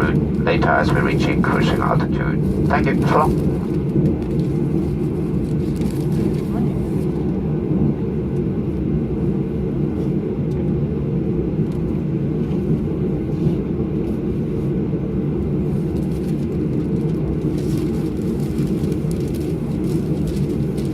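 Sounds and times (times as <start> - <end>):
low rumble in aircraft cabin: 0.0 - 20.9.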